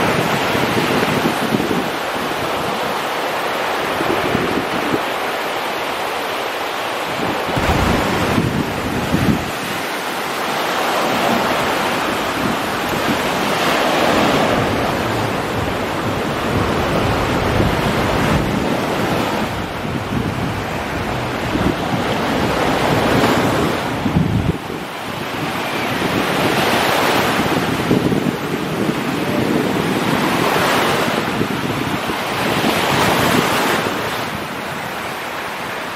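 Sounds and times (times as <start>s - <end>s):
surf breaking on beach: 0.0s - 35.9s
wind gusting on microphone: 0.0s - 35.9s.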